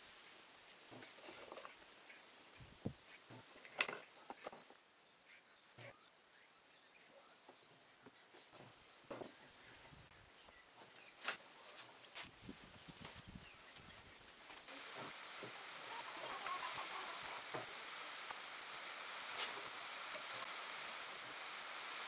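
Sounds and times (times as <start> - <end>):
high insect chirr: 0.9 - 22.0.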